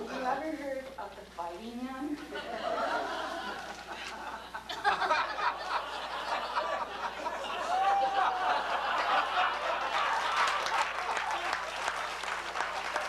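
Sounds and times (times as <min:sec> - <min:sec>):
audience laughing: 0:02.3 - 0:13.0.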